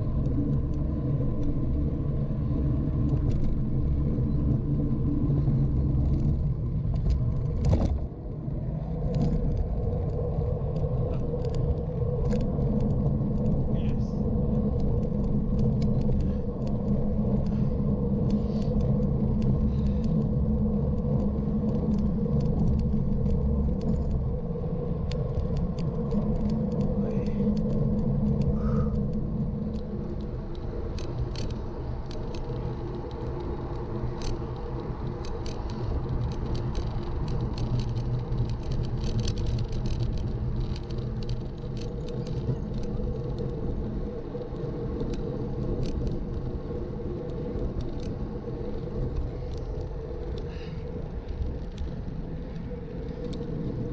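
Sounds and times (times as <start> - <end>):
road rumble: 0.0 - 53.9
wind buffeting: 0.0 - 53.9.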